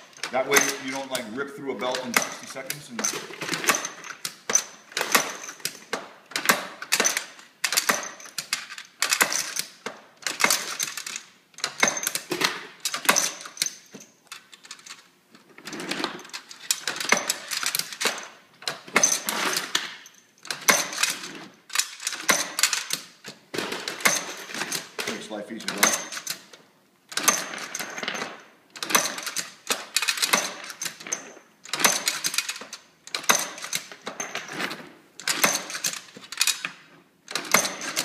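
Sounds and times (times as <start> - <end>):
metal cartridges clicking and rattling: 0.0 - 38.0.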